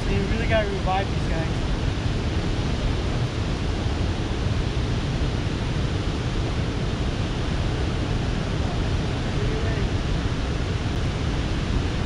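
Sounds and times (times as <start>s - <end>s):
water roaring through spillway: 0.0s - 12.0s
wind buffeting microphone: 0.0s - 12.0s.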